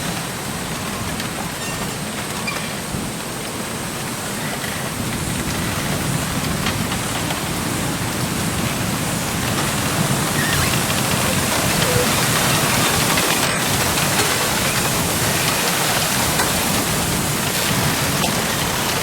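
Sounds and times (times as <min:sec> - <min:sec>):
wind rustling bamboo leaves: 0:00.0 - 0:19.0.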